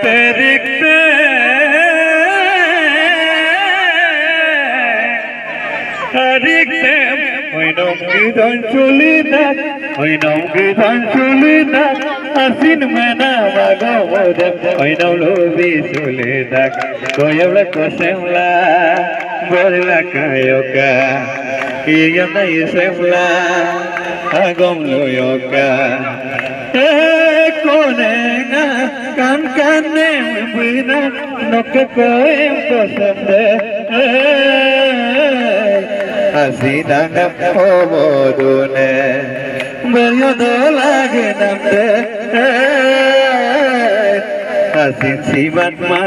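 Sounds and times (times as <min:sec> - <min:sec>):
people clapping along: 0:00.0 - 0:05.0, 0:05.7 - 0:46.0
man singing into a microphone: 0:00.0 - 0:46.0.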